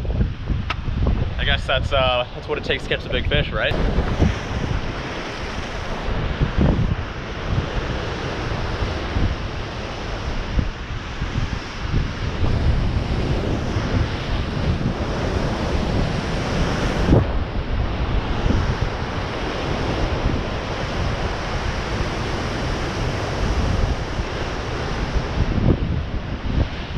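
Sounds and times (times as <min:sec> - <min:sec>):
ocean surf against cliffs: 0:00.0 - 0:26.9
wind buffeting microphone: 0:00.0 - 0:26.9.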